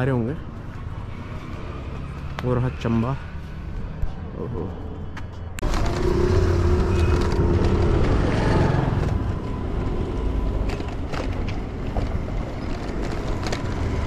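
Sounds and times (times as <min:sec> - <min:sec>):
motor traffic: 0:00.0 - 0:14.0.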